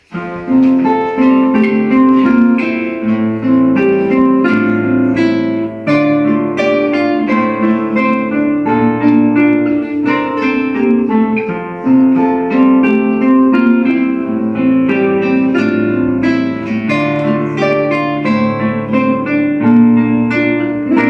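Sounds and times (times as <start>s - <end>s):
fingerpicked acoustic guitars: 0.0s - 21.0s.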